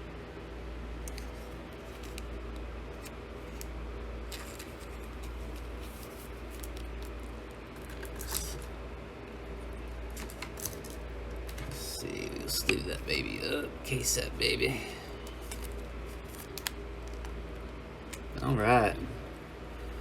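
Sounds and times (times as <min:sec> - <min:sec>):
steady low hum: 0:00.0 - 0:20.0
cards and sleeves rustling: 0:01.1 - 0:08.8, 0:09.5 - 0:18.8.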